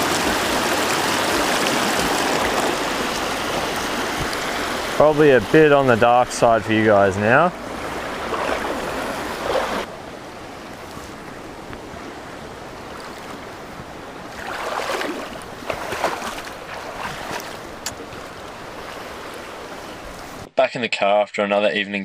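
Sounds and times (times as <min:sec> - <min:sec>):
water splashing: 0:00.0 - 0:09.9, 0:10.8 - 0:20.5
mountain stream rushing: 0:00.0 - 0:20.5.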